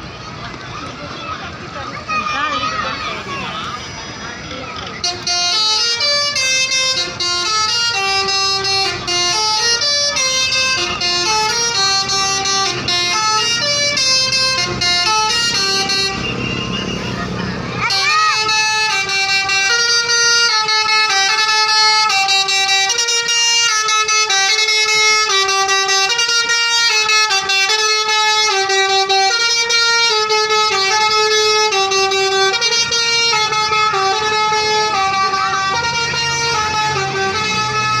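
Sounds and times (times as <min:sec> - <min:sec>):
multi-tone air horns playing tune: 0:05.0 - 0:17.2, 0:17.8 - 0:38.0.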